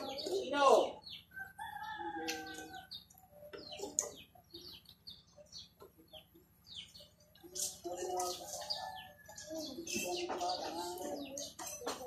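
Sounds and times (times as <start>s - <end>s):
birds chirping: 0.0s - 12.0s
low clucking bird calls: 0.0s - 12.0s.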